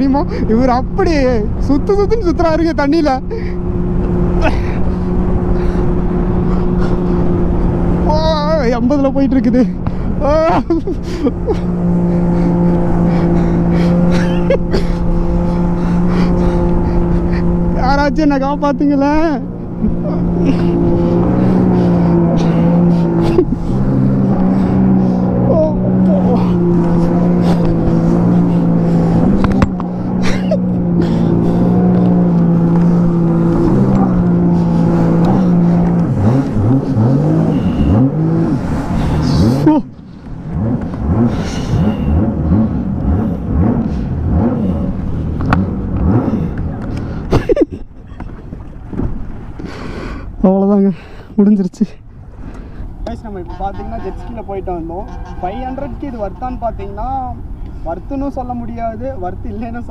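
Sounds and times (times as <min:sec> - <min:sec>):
jet ski engine drone: 0:00.0 - 0:51.4.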